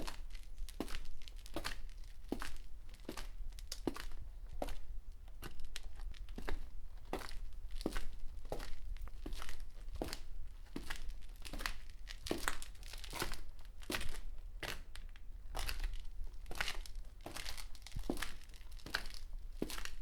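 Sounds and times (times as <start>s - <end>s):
footsteps on concrete: 0.0s - 20.0s.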